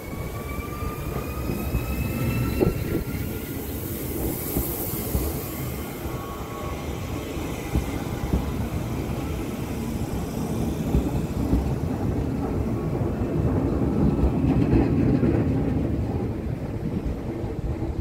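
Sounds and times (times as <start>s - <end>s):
electric train passing: 0.0s - 18.0s
wheels rumbling on rail: 0.0s - 18.0s.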